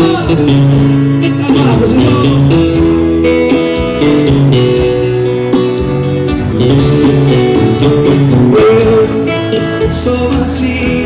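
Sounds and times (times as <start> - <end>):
band playing instrumental music: 0.0 - 11.0
guitar: 0.0 - 11.0.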